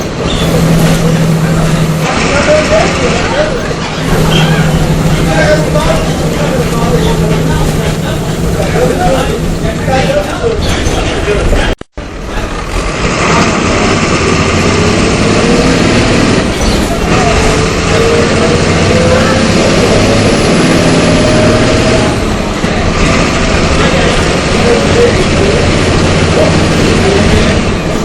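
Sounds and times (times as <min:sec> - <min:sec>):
engine whine: 0:00.0 - 0:11.4, 0:12.1 - 0:28.0
bus diesel engine under load: 0:00.0 - 0:28.0.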